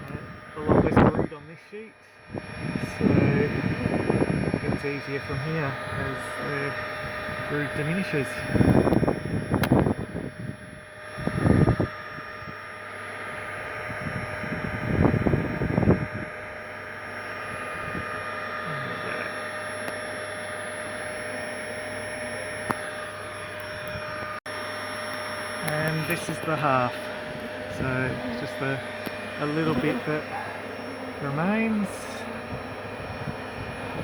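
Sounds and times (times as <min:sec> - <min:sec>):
vacuum hum and whine: 0:00.0 - 0:34.0.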